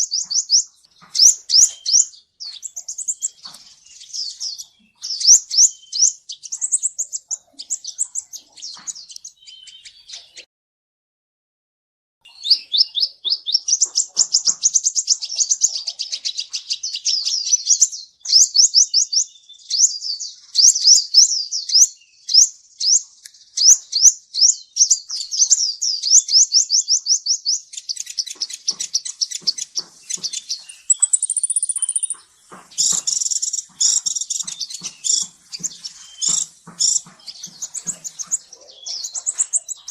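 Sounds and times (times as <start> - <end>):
bird twittering chirps: 0.0 - 10.5, 12.2 - 39.9.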